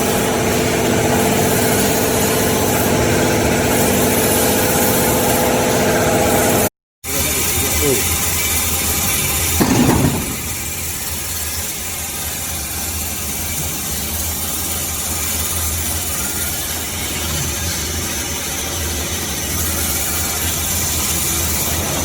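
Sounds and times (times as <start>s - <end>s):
band saw running: 0.0s - 22.0s.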